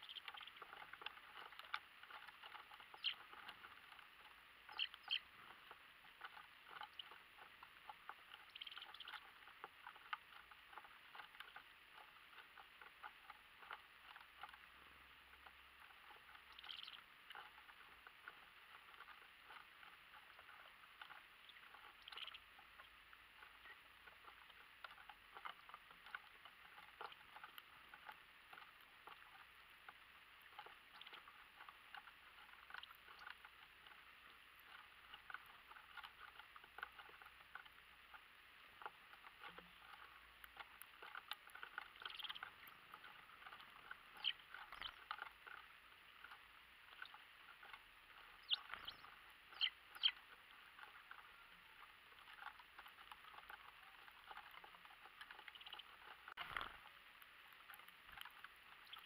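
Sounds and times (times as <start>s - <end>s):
bird pecking seeds on wooden tray: 0.0s - 59.0s.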